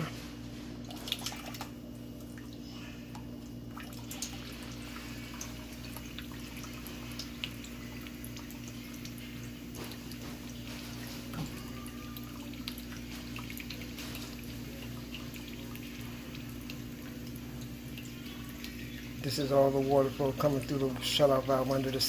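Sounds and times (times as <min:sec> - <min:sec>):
water trickling and dripping: 0:00.8 - 0:22.0.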